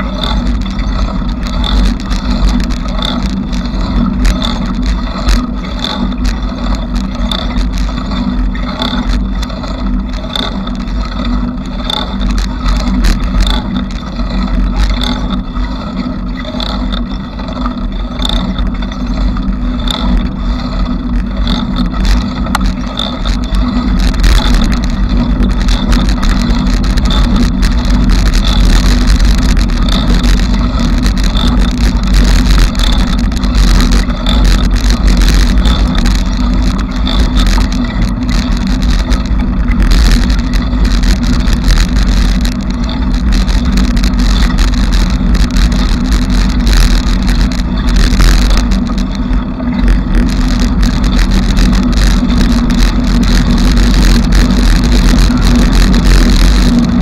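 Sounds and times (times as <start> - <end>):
bicycle ride rumble and rattle: 0.0 - 57.0.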